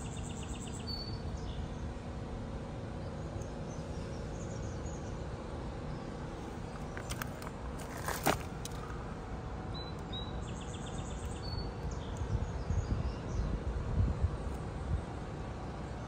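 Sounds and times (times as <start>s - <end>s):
small birds chirping: 0.0s - 2.1s, 2.9s - 15.2s.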